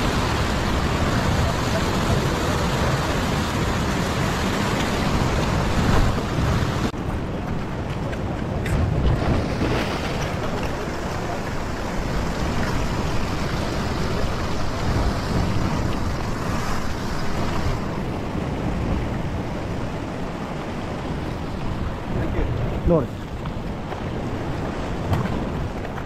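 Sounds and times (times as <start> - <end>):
ocean swell washing over rocks: 0.0 - 26.0
wind buffeting the microphone: 0.0 - 26.0.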